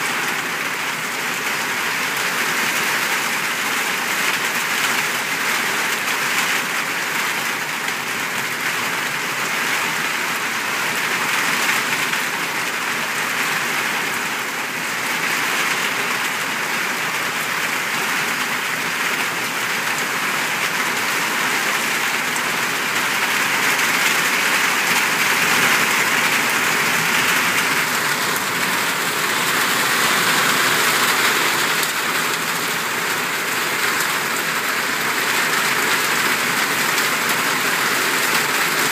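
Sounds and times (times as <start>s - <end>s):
heavy rain on pavement: 0.0s - 38.9s.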